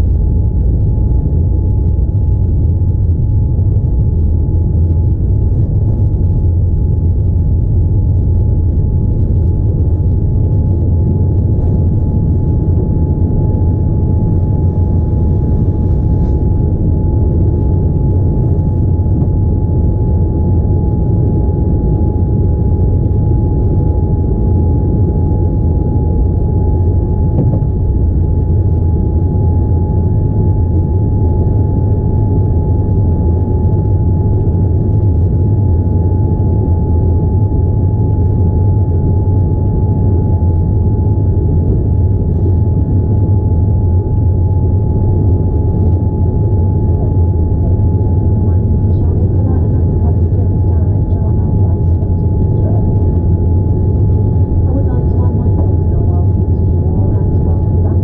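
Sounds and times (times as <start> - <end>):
aircraft cabin rumble: 0.0 - 58.0
constant high hum: 0.0 - 58.0.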